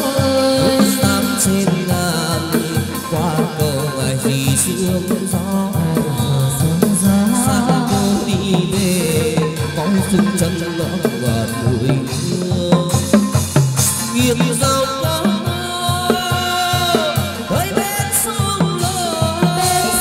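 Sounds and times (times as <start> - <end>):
drum beat: 0.0 - 20.0
person singing: 0.0 - 20.0
plucked string melody: 0.0 - 20.0.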